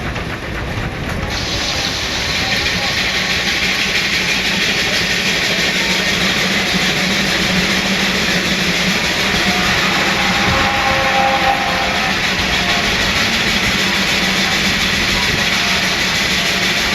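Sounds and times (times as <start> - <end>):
steam engine driving sawmill: 0.0 - 16.9.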